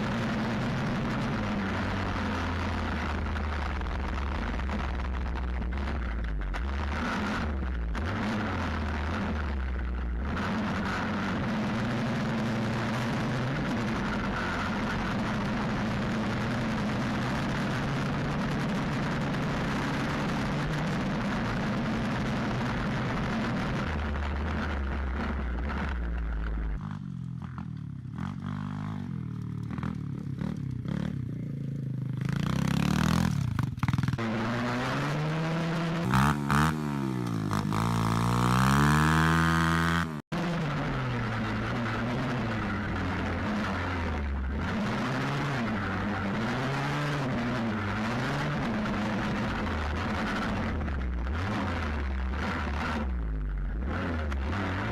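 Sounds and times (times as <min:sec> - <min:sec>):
pit bike engine revving: 0:00.0 - 0:54.9.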